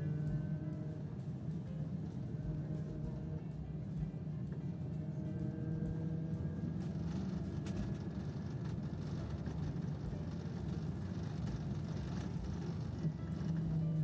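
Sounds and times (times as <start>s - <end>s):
light rattles: 0.0s - 14.0s
trolleybus running hum: 0.0s - 14.0s.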